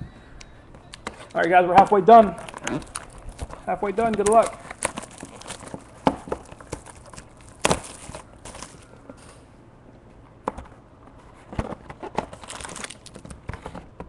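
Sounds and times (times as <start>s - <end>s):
cardboard rustling: 1.0s - 9.4s, 11.1s - 14.0s.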